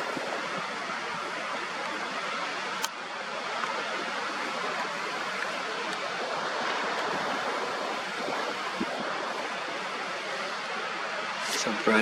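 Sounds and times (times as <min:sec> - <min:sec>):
ocean surf washing on shore: 0:00.0 - 0:12.0.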